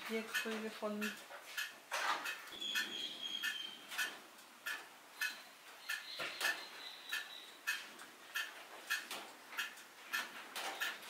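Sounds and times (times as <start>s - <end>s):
mechanical clock ticking: 0.1s - 11.0s.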